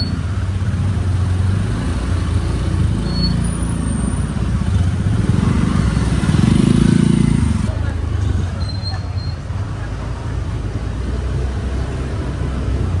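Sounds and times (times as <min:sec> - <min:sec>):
scooter engines humming: 0:00.0 - 0:13.0.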